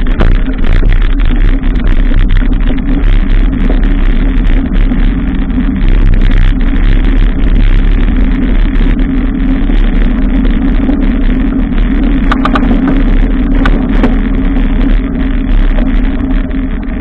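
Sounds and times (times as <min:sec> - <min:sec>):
road rumble: 0:00.0 - 0:17.0
wind on microphone: 0:00.0 - 0:17.0.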